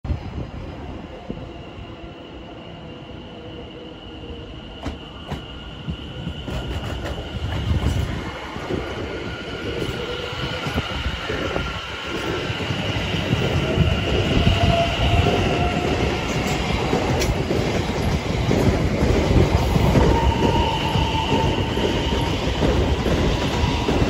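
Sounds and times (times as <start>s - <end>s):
electric train whine: 0.1s - 24.0s
train wheels rumbling: 4.2s - 24.0s.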